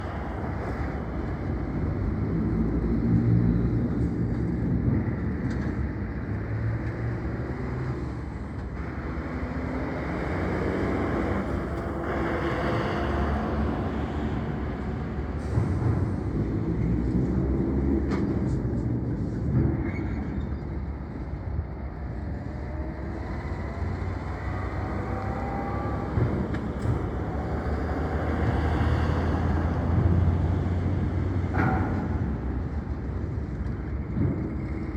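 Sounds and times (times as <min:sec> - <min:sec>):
diesel truck engines passing: 0:00.0 - 0:34.9.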